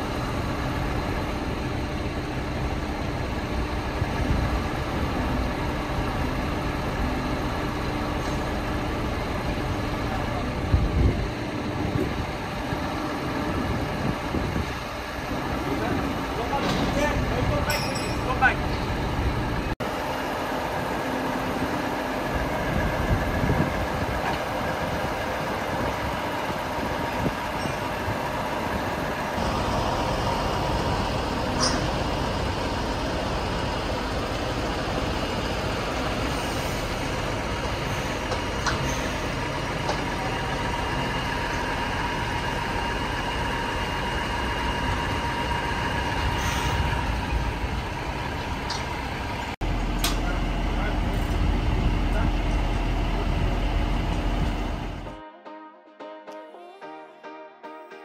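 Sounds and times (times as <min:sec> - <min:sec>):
diesel truck engine running: 0:00.0 - 0:55.2.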